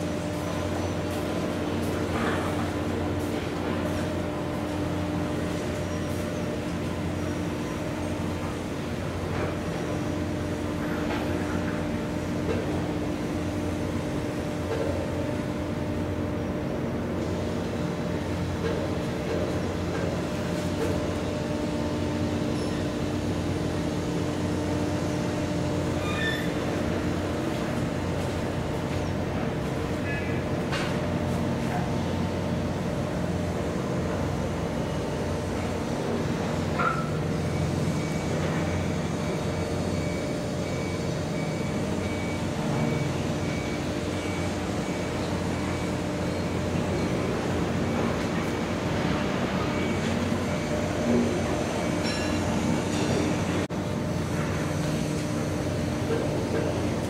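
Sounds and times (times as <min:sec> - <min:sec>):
ship diesel engines droning: 0:00.0 - 0:57.0.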